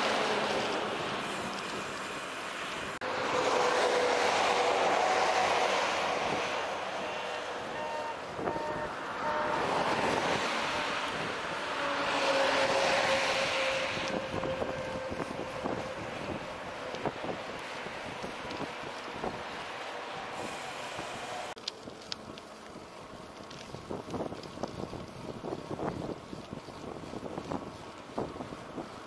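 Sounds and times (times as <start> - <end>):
road traffic passing: 0.0 - 29.0
wind rushing over microphone: 3.2 - 21.4, 23.5 - 29.0.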